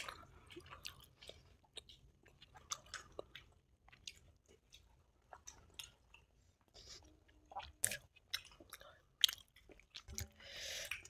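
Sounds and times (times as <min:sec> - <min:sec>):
chewing and wet mouth sounds: 0:00.0 - 0:11.0.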